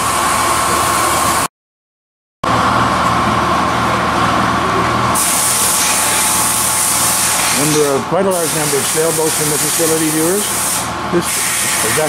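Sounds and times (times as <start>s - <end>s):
workshop machinery whirring: 0.0s - 1.5s, 2.4s - 12.0s.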